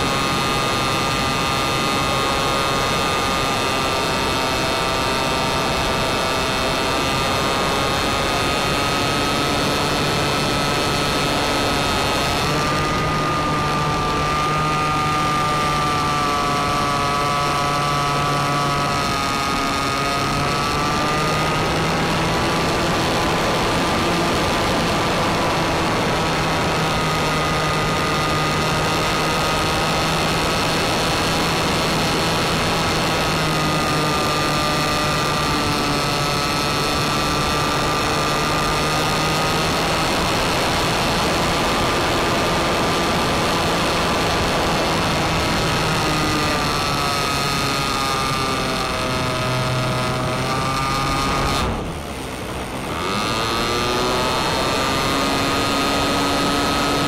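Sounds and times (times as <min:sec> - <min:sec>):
model plane motor whine: 0:00.0 - 0:57.0.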